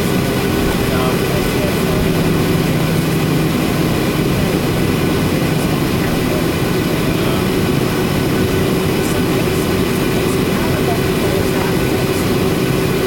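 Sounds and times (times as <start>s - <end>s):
aircraft cabin noise: 0.0s - 13.0s.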